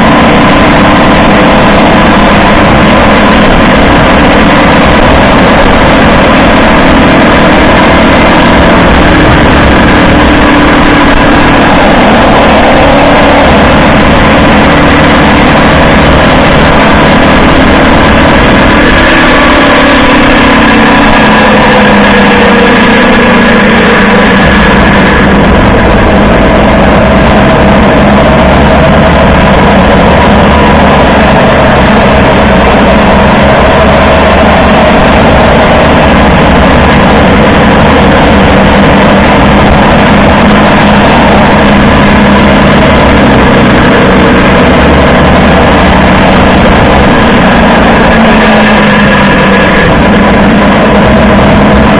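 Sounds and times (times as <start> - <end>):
drivetrain tones: 0.0 - 51.9
tyre road noise: 0.0 - 51.9.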